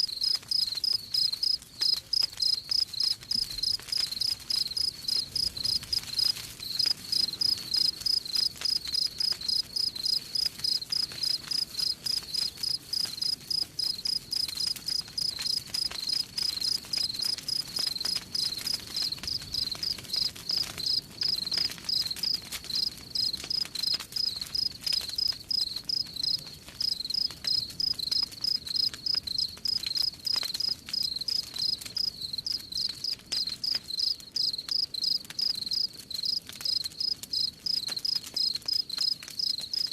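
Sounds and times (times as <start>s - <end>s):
crickets chirping: 0.0s - 22.4s, 24.2s - 30.1s, 31.0s - 39.9s
campfire crackling: 0.0s - 39.9s.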